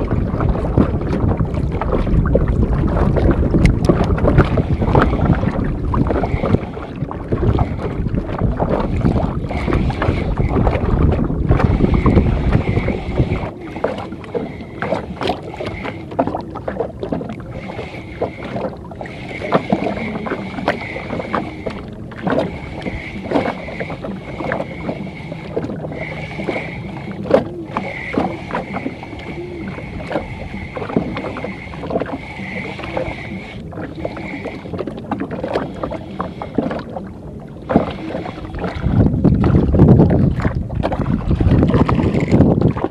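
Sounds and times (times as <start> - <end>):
water splashing against boat: 0.0 - 42.9
wind rumbling on microphone: 0.0 - 42.9.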